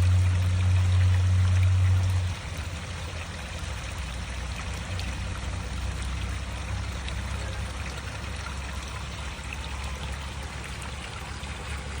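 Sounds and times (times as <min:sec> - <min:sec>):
water pouring from a spout: 0:00.0 - 0:12.0.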